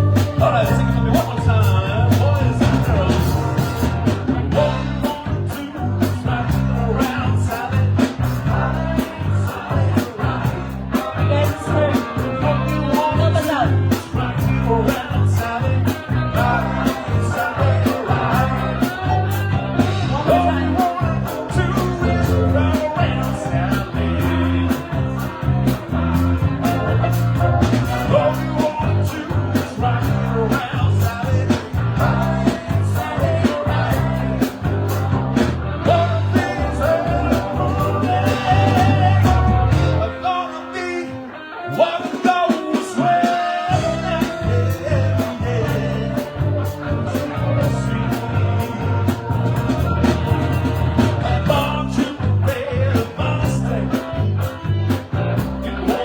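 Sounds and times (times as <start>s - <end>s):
bass line: 0.0s - 56.0s
drums: 0.0s - 56.0s
vocal or guitar melody: 0.0s - 56.0s.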